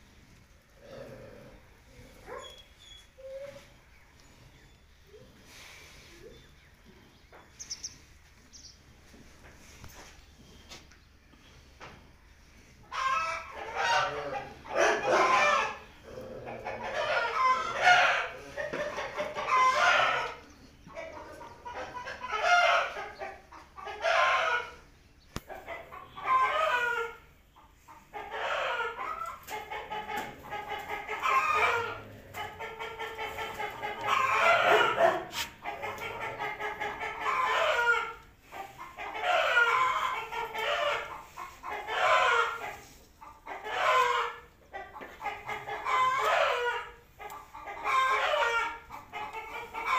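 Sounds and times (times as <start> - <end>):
chickens crowing and clucking: 0.0 - 49.9.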